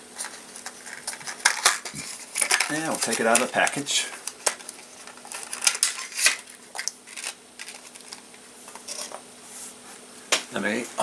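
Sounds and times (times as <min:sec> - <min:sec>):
faint steady hum: 0:00.0 - 0:11.0
package crinkling: 0:00.1 - 0:09.2.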